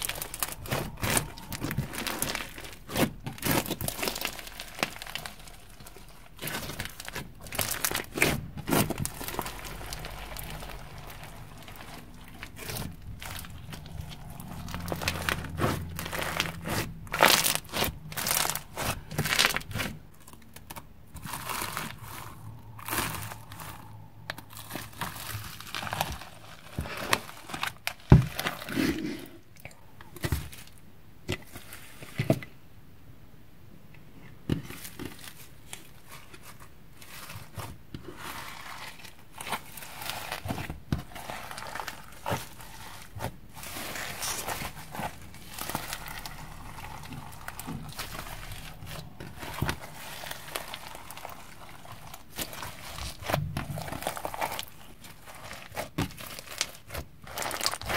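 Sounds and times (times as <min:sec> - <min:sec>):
slime crackling and crunching: 0:00.0 - 0:32.4, 0:34.5 - 0:57.9.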